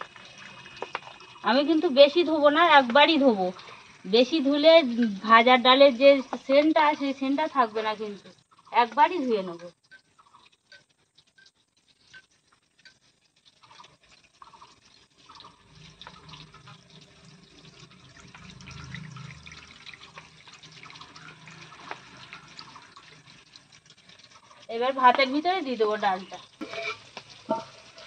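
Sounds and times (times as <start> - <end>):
water trickling into metal bowl: 0.0 - 28.0.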